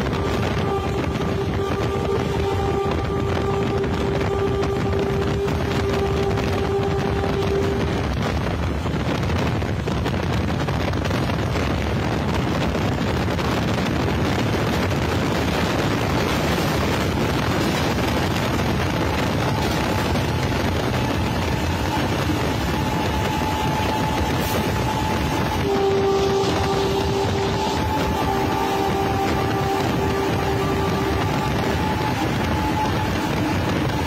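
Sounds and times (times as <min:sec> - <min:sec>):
trains rumbling at speed: 0:00.0 - 0:34.0
wind buffeting microphone: 0:00.0 - 0:34.0.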